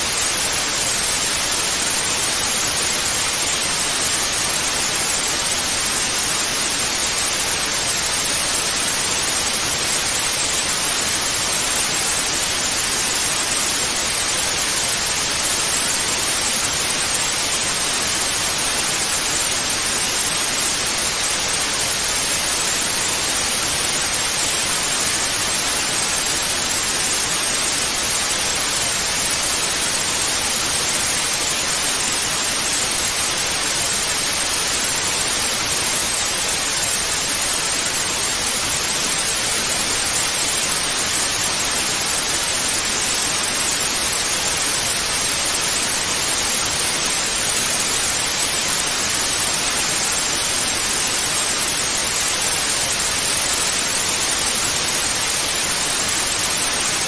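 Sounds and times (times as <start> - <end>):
television static hiss: 0.0 - 57.0.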